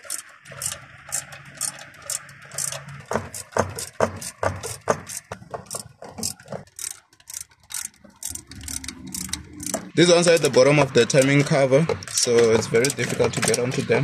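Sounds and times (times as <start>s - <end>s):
ratchet wrench clicking: 0.0s - 14.0s.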